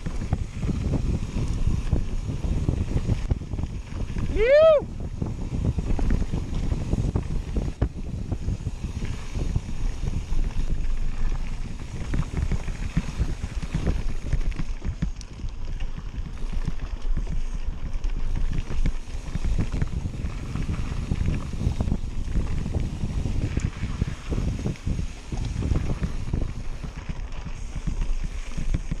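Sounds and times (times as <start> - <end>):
tyres rumbling on dirt: 0.0 - 29.0
wind buffeting microphone: 0.0 - 29.0
bike knocks and rattles: 5.2 - 29.0.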